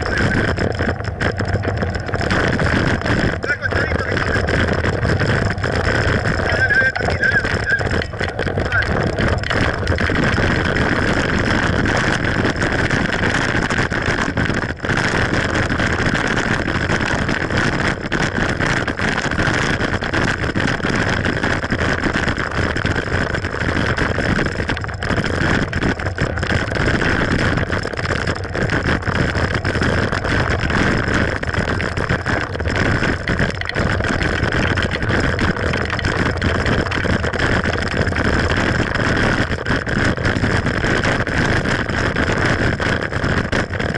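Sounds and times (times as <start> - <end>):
bike knocks and rattles: 0.0 - 43.9
wind and tyre noise: 0.0 - 43.9.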